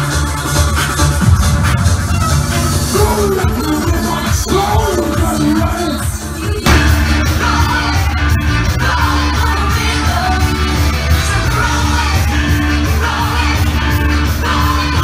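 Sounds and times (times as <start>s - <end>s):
heavy bass: 0.0s - 15.0s
pop music with vocals: 0.0s - 15.0s.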